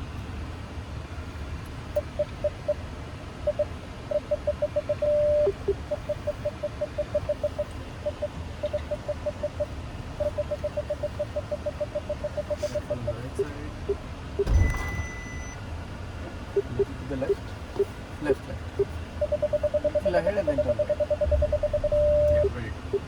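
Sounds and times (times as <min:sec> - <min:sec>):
low engine and cabin hum: 0:00.0 - 0:23.0
parking sensor beeps: 0:02.0 - 0:02.8, 0:03.4 - 0:15.7, 0:16.5 - 0:23.0.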